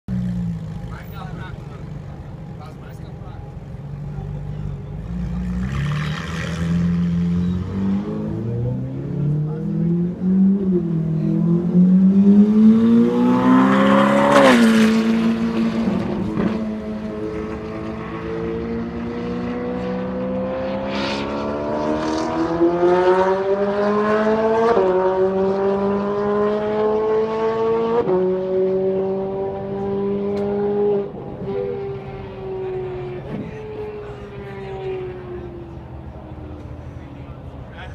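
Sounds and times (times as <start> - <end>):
sports car engine accelerating: 0.1 - 37.7.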